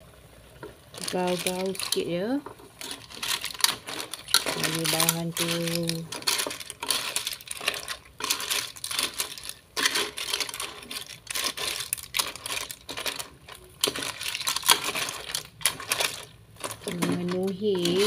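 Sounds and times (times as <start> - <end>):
clam shells clinking in a pot: 0.9 - 18.0.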